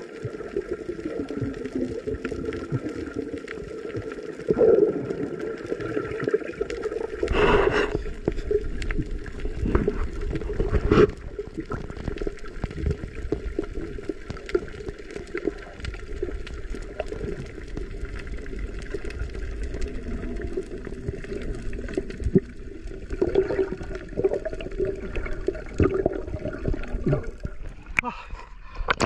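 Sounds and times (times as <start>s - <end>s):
muffled underwater rush and gurgling: 0.0s - 29.0s
small underwater clicks and knocks: 0.2s - 29.0s.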